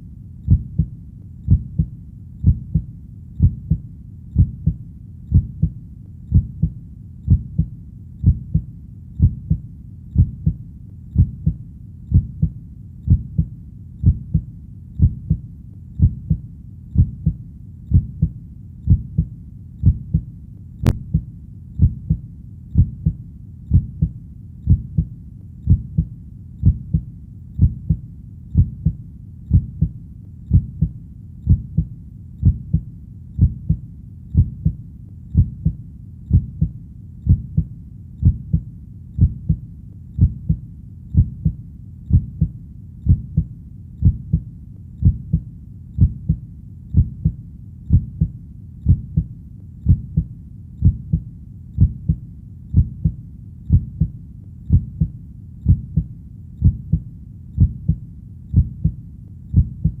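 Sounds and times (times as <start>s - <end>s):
heartbeat thumps: 0.0s - 60.0s.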